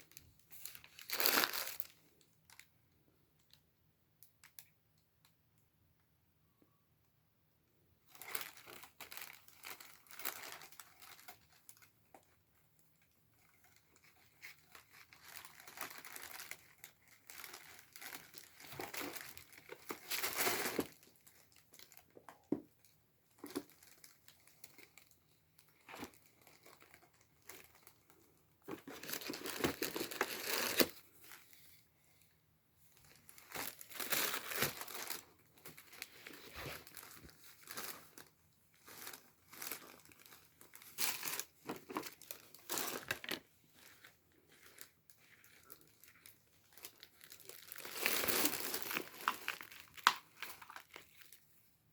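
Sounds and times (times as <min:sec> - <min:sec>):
packaging crinkling and tearing: 0:00.0 - 0:02.6, 0:08.1 - 0:12.3, 0:13.0 - 0:31.5, 0:33.1 - 0:51.4.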